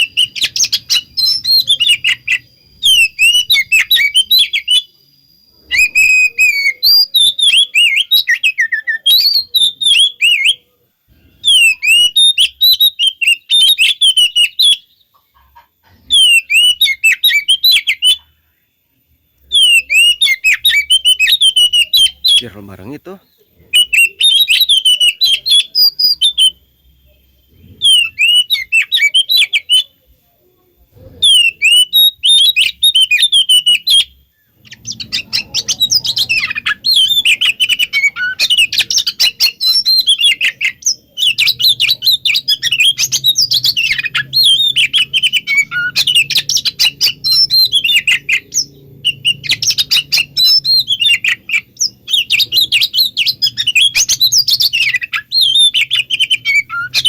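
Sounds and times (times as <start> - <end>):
magpie-robin singing: 0.0 - 10.8, 11.4 - 18.6, 19.4 - 30.1, 31.2 - 57.0
faint low hum: 0.0 - 12.6, 17.4 - 57.0.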